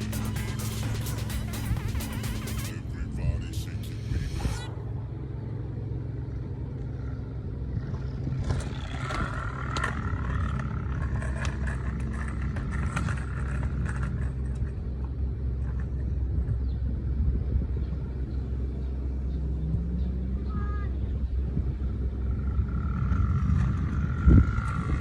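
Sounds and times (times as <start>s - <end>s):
engine rumble sound effect: 0.0s - 25.0s.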